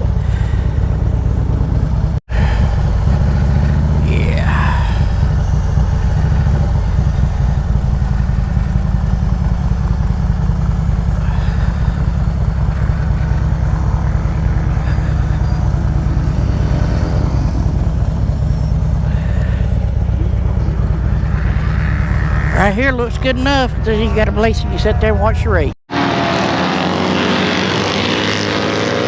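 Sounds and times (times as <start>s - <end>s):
motorcycle engine running steadily: 0.0s - 25.7s.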